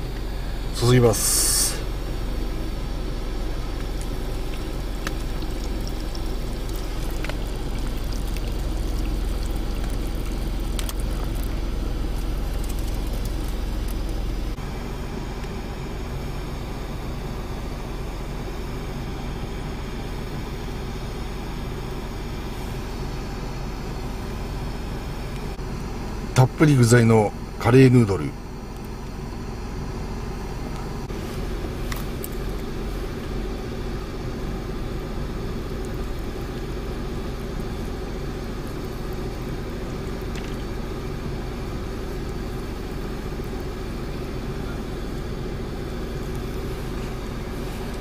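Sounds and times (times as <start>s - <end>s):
low rumble inside car: 0.0s - 48.0s.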